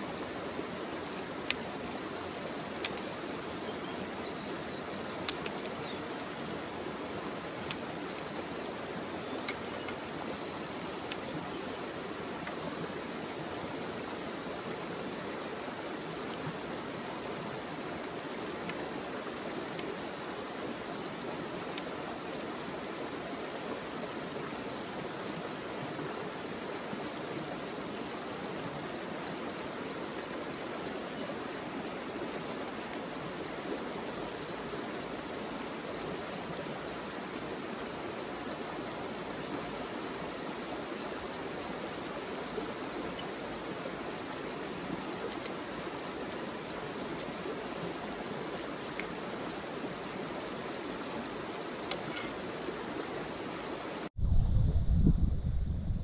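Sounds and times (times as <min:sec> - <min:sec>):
river water rushing over stones: 0:00.0 - 0:54.1.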